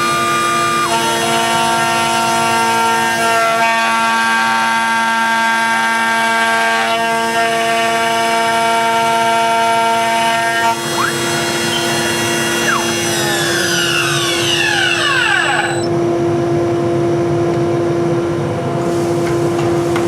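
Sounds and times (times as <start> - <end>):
stepper motor tones: 0.0 - 16.2
cnc router spindle whine: 0.0 - 18.8.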